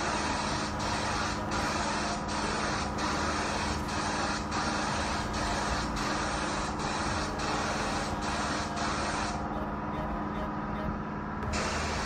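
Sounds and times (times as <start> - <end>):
spray gun air hiss: 0.0 - 9.5, 11.4 - 12.0
steady low hum: 0.0 - 12.0.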